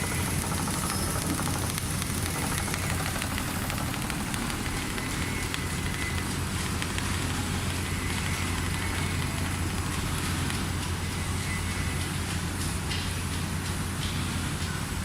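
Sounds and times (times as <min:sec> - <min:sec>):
sewing machine humming and ticking: 0:00.0 - 0:12.1.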